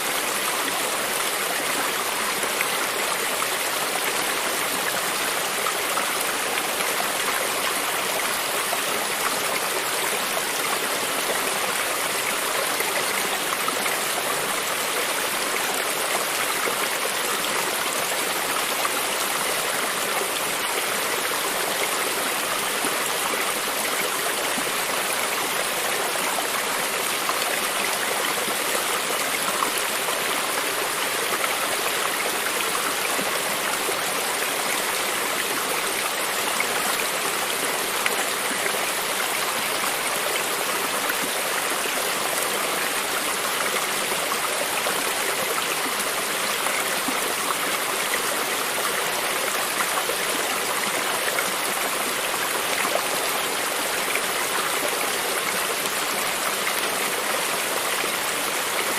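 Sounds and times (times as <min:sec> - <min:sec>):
stream of running water: 0:00.0 - 0:58.9.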